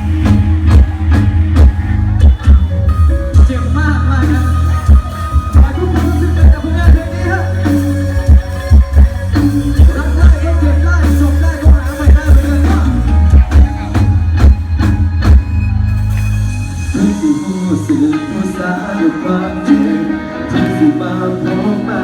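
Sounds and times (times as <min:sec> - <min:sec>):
heavy bass line: 0:00.0 - 0:22.0
loud music over sound system: 0:00.0 - 0:22.0.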